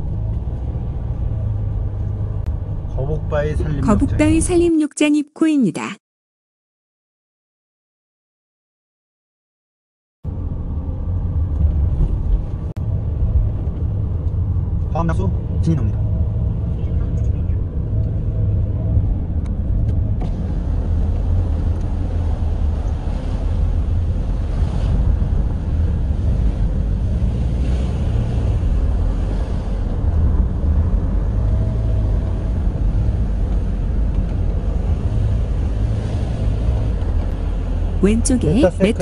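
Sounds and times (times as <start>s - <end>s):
car engine and tyre rumble: 0.0s - 4.7s, 10.2s - 39.0s.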